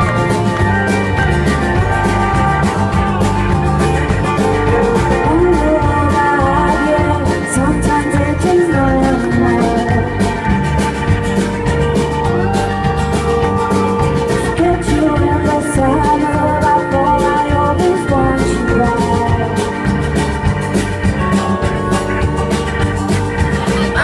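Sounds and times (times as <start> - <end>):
drum kit beat: 0.0 - 24.0
live band playing: 0.0 - 24.0.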